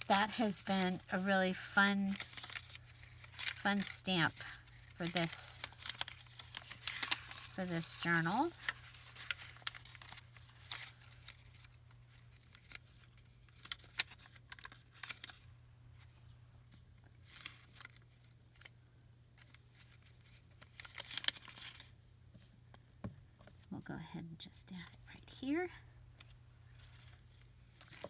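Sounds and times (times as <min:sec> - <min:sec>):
paper rustling and crinkling: 0:00.0 - 0:16.2, 0:16.8 - 0:22.0, 0:26.2 - 0:28.0.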